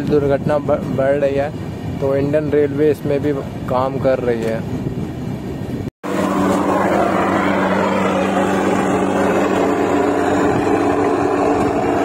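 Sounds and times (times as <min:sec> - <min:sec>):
mechanical drone with rushing noise: 0:00.0 - 0:12.0.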